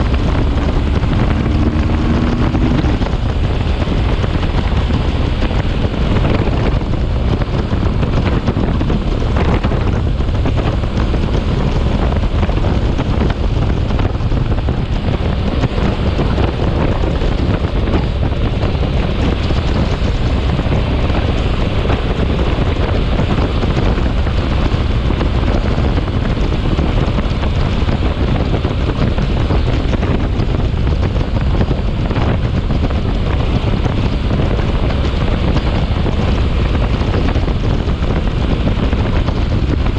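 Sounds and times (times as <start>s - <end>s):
storm wind buffeting microphone: 0.0s - 39.9s.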